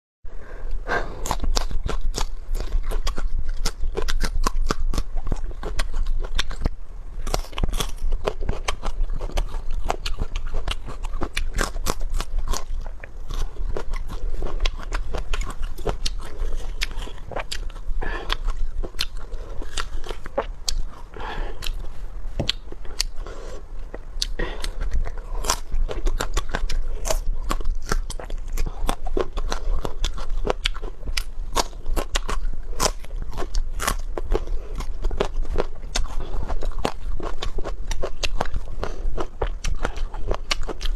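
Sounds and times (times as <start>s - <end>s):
crunchy chewing: 0.6s - 40.9s.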